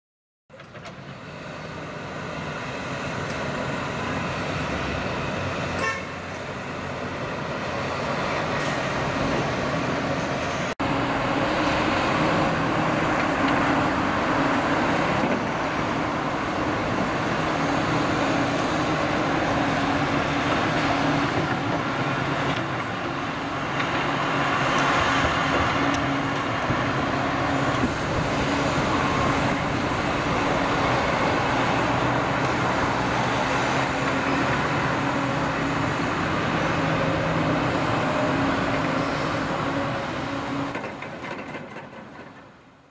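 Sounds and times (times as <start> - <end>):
excavator diesel engine running: 0.5 - 42.9.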